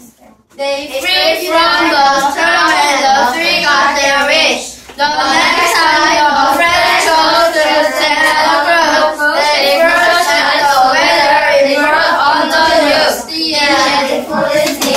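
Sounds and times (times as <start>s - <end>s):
boys singing together: 0.6s - 14.9s.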